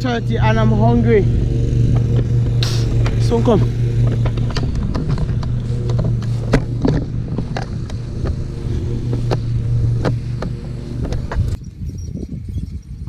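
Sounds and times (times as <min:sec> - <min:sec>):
lawn mower engine hum: 0:00.0 - 0:11.8.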